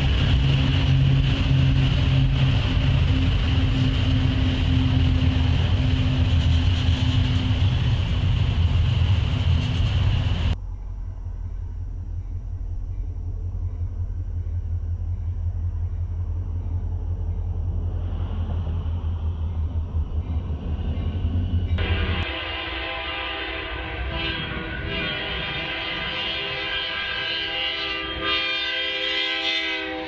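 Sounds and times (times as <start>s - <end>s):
low rumble: 0.0s - 27.8s
diesel engine drone: 0.0s - 28.3s
locomotive engine approaching: 0.0s - 30.0s.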